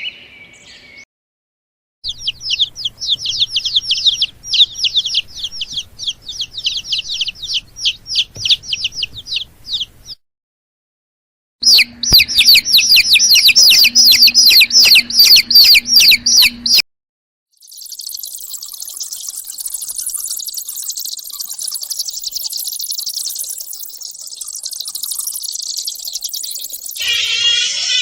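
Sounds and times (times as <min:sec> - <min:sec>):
birds chirping: 0:00.0 - 0:01.0, 0:02.0 - 0:10.2, 0:11.6 - 0:16.8, 0:17.6 - 0:28.0.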